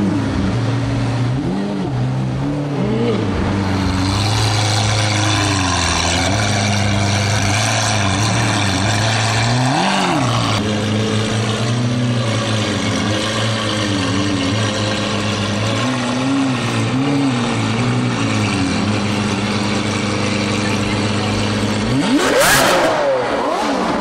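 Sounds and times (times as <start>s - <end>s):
sports car engine idling and revving: 0.0s - 24.0s.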